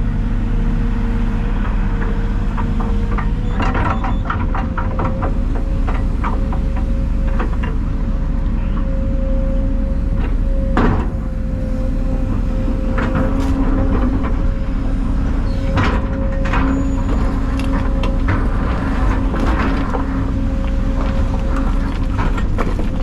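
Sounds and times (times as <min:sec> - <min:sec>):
diesel machinery whining: 0:00.0 - 0:23.0.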